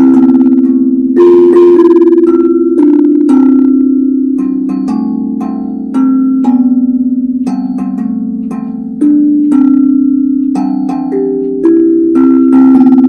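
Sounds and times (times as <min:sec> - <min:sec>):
steel tongue drum melody: 0:00.0 - 0:13.0.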